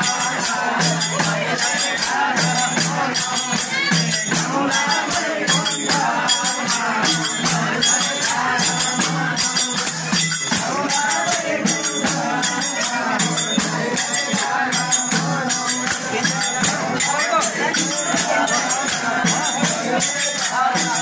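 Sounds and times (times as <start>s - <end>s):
jingling hand percussion: 0.0s - 21.0s
person singing devotional song: 0.0s - 21.0s.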